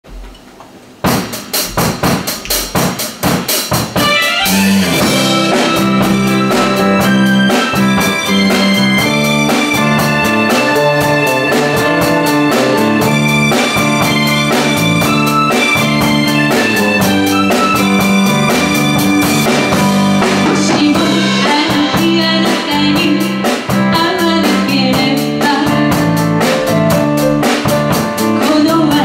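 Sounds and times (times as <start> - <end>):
drum kit hits: 1.0 - 29.0
live rock band playing: 1.1 - 29.0.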